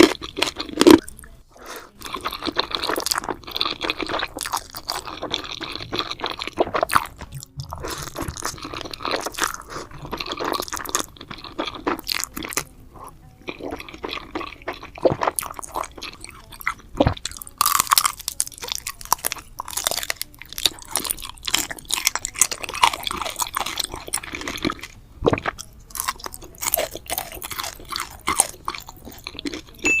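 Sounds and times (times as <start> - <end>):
chewing and crunching: 0.0 - 29.9.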